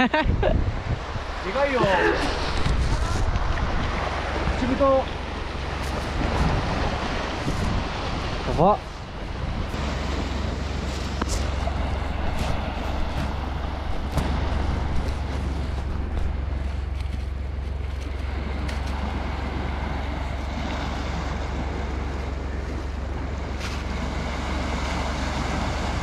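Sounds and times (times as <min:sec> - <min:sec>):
surf on rocky shore: 0:00.0 - 0:26.0
wind buffeting microphone: 0:00.0 - 0:26.0.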